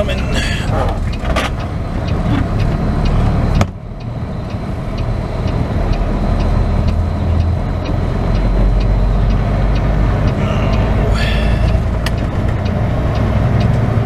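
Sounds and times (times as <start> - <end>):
truck diesel engine running: 0.0 - 14.0
turn signal ticking: 0.0 - 14.0.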